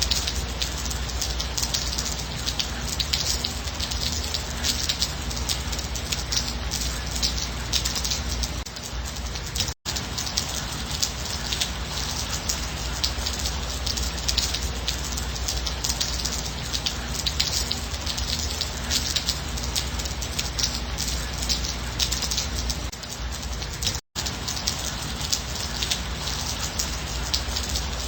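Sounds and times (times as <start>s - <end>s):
raindrops hitting a surface: 0.0s - 28.0s
steady gentle rain: 0.0s - 28.0s.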